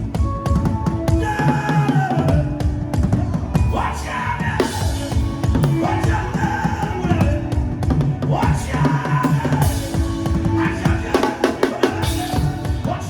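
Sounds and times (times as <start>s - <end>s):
drum kit fast beat: 0.0s - 13.0s.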